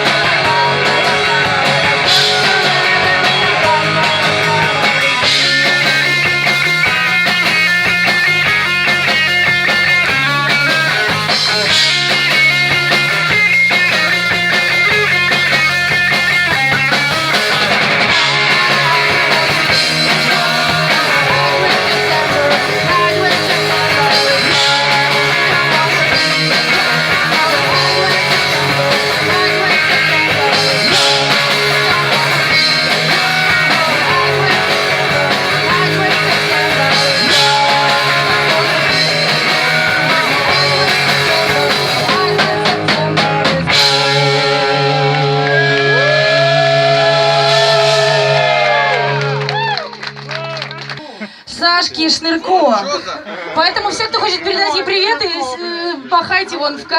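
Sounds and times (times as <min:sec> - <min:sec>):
punk rock band playing live: 0:00.0 - 0:52.8.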